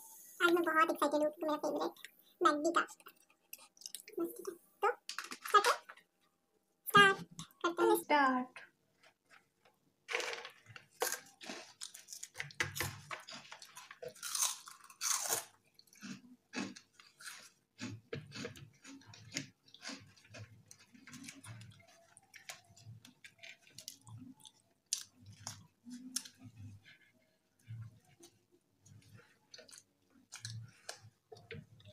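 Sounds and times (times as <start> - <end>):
chewing and crunching food: 1.0 - 6.4, 8.6 - 31.9.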